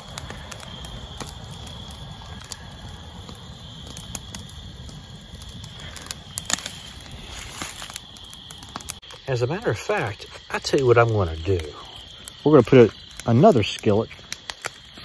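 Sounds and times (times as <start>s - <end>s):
fire crackling: 0.0s - 15.0s
insects chirring: 0.0s - 15.0s
sharp pops of fire: 0.0s - 15.0s.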